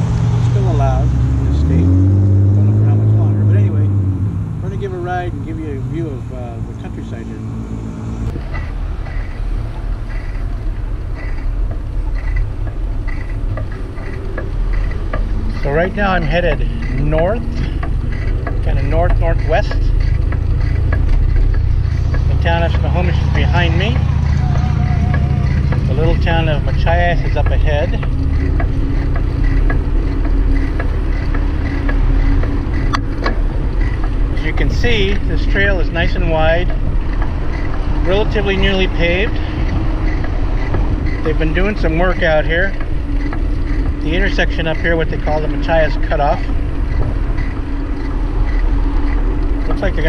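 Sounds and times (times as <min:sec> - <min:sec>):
tyres on asphalt: 0:00.0 - 0:50.0
wind rumbling on microphone: 0:00.0 - 0:50.0
bicycle clicks and rattles: 0:08.3 - 0:50.0.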